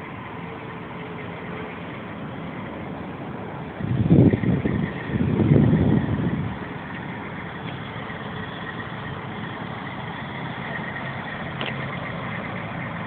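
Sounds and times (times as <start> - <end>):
truck engines idling: 0.0 - 13.0.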